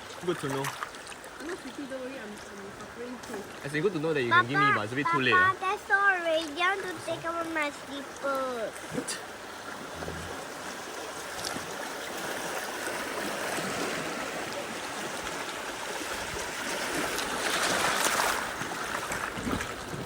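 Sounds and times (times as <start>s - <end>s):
river water rushing and splashing: 0.0s - 20.0s.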